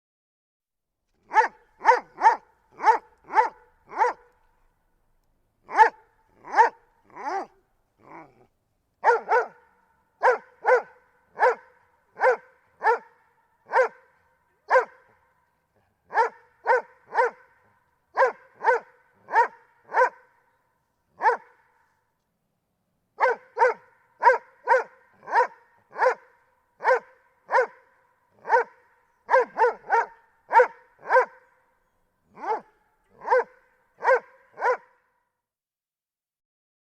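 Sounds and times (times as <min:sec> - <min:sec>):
dog barking: 0:01.2 - 0:04.4, 0:05.6 - 0:20.5, 0:21.2 - 0:21.9, 0:23.2 - 0:31.7, 0:32.3 - 0:35.2.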